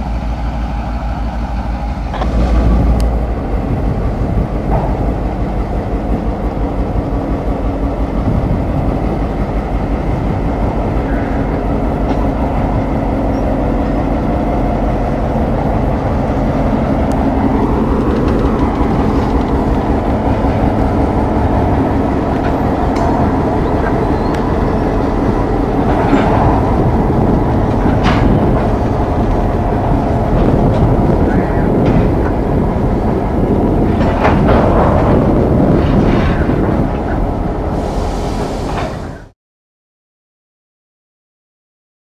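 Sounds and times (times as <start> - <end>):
diesel locomotive engine rumble: 0.0 - 39.4.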